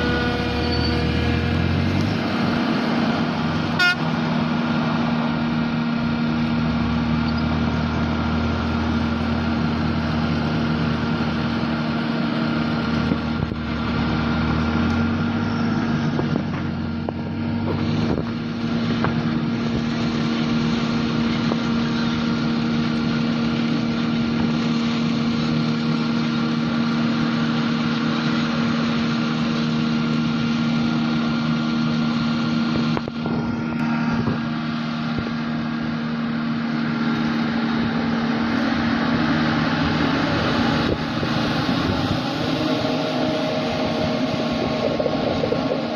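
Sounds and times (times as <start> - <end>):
deep engine rumble: 0.0 - 45.9
harvester and tractor engines droning: 0.0 - 45.9.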